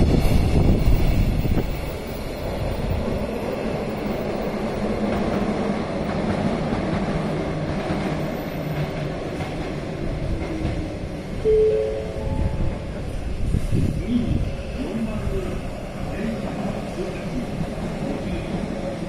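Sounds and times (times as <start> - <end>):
freight train rumbling on track: 0.0 - 19.0.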